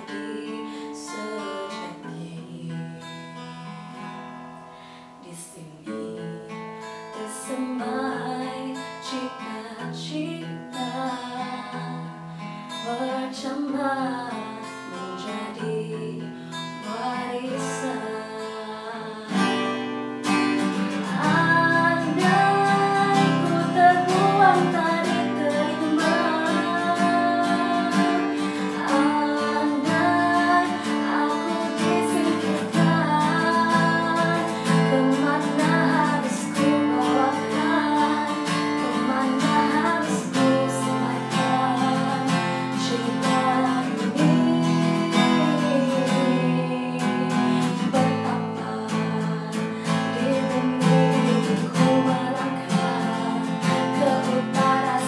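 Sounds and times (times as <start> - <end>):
woman singing: 0.0 - 3.4, 5.1 - 55.0
acoustic guitar: 0.0 - 55.0.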